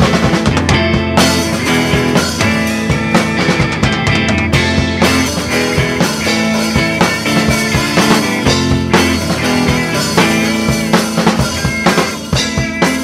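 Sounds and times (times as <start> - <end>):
drum kit beat: 0.0 - 13.0
rock music: 0.0 - 13.0
sustained guitar: 0.0 - 13.0.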